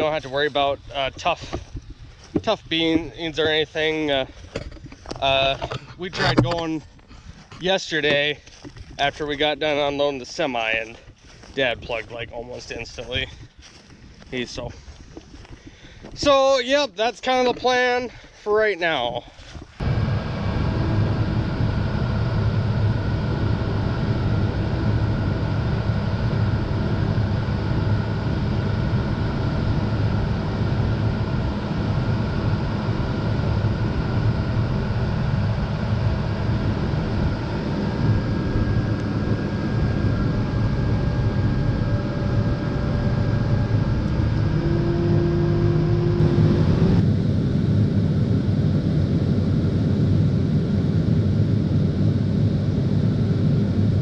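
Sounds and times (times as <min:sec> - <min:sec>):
harvest machinery engine droning: 0:00.0 - 0:54.0.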